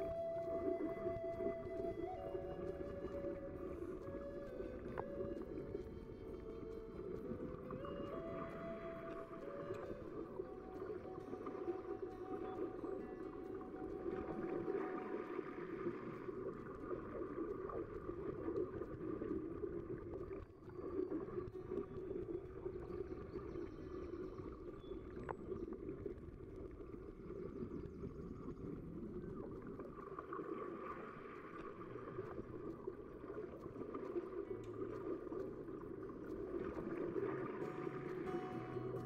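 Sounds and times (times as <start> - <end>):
muffled underwater wash: 0.0 - 39.0.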